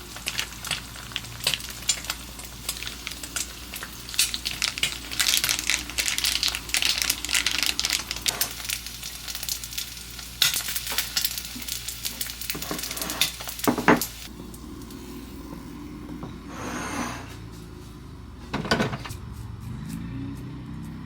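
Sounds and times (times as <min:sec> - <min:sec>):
food sizzling in a frying pan: 0:00.0 - 0:17.5.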